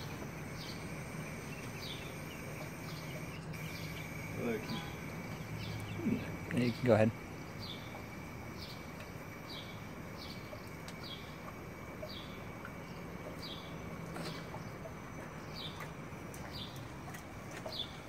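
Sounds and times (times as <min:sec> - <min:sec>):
bird chirping: 0:00.0 - 0:06.8, 0:07.4 - 0:11.4, 0:12.0 - 0:16.8
low steady hum: 0:00.0 - 0:18.0.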